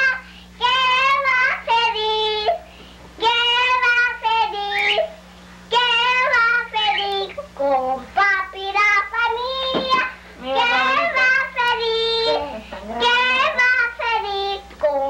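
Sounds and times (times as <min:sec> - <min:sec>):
girl singing in a high voice: 0:00.0 - 0:15.0
steady low hum: 0:00.0 - 0:15.0.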